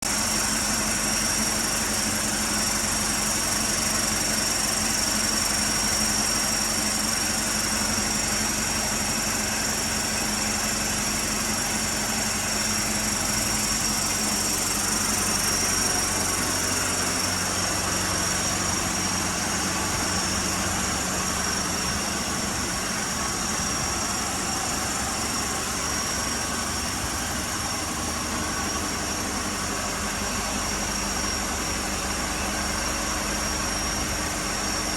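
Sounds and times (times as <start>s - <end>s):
vehicle engine idling: 0.1s - 34.9s.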